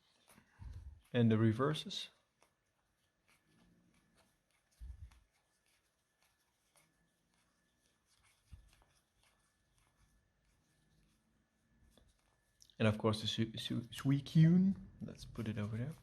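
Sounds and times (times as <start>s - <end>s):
cards rustling and clicking: 0.0s - 11.2s, 13.7s - 16.0s.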